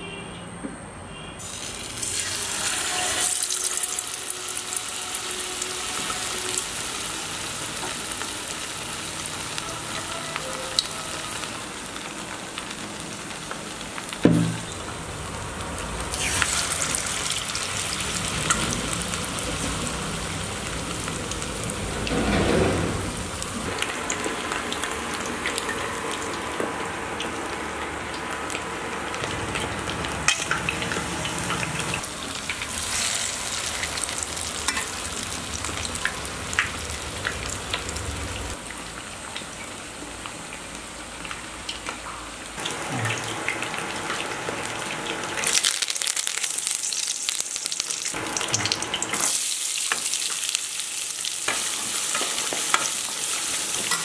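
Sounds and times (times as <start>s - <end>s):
hot oil sizzling and crackling: 1.4s - 54.0s.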